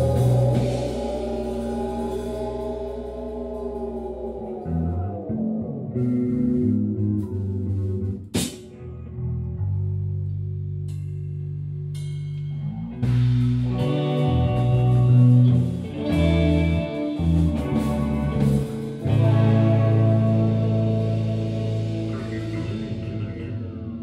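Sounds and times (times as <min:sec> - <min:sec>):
live rock band playing: 0:00.0 - 0:09.2, 0:12.0 - 0:24.0.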